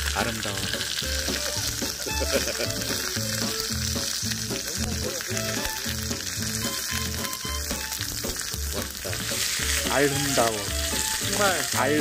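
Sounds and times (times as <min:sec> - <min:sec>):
pork sizzling on a griddle: 0:00.0 - 0:12.0
music with a steady beat: 0:00.8 - 0:12.0.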